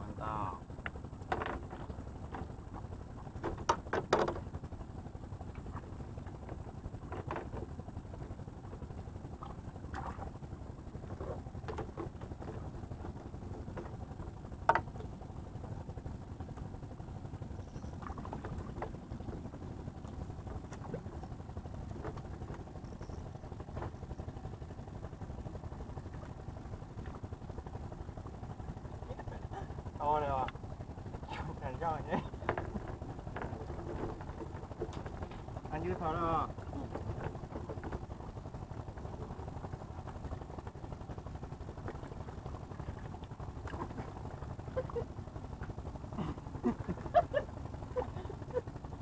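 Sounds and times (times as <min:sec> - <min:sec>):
steady low rumble: 0:00.0 - 0:49.0.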